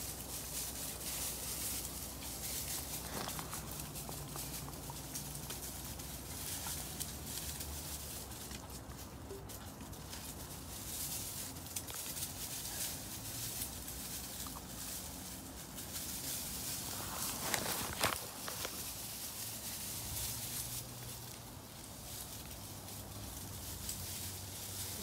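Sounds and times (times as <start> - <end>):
patter of small paw steps: 0.0 - 25.0
straw rustling: 0.0 - 25.0.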